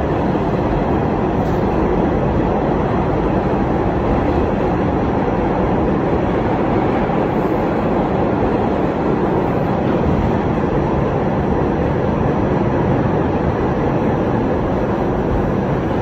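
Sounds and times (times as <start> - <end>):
subway car wheels on rails: 0.0 - 16.0.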